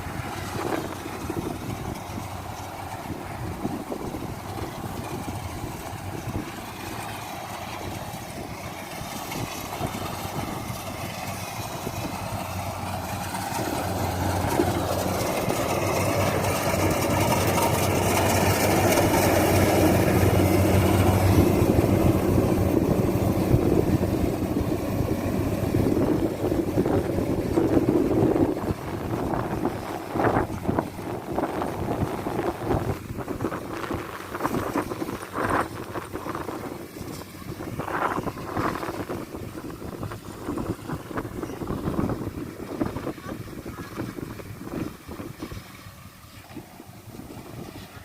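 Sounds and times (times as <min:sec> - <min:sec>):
combine harvester engine running: 0:00.0 - 0:48.0.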